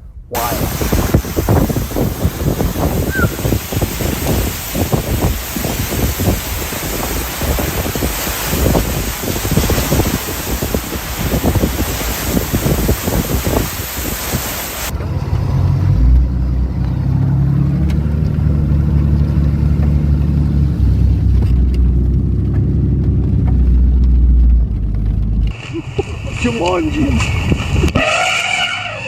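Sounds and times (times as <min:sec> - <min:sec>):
vehicle engine rumbling: 0:00.0 - 0:29.0
wind and rain on microphone: 0:00.0 - 0:29.0.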